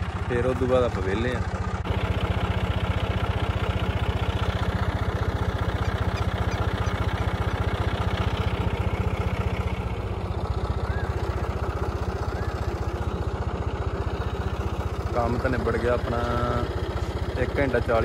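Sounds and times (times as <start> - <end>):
tractor diesel engine idling: 0.0 - 18.0.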